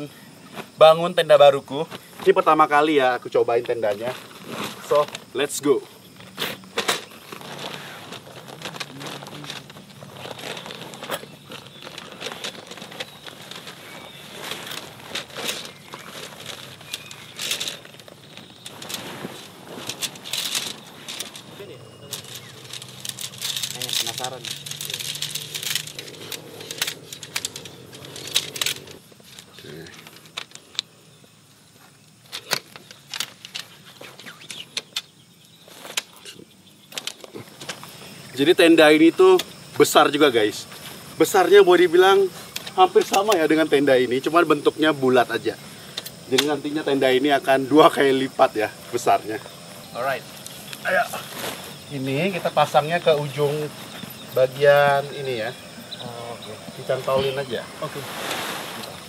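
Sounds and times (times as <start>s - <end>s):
tent fabric rustling: 3.7s - 30.6s, 35.5s - 59.0s.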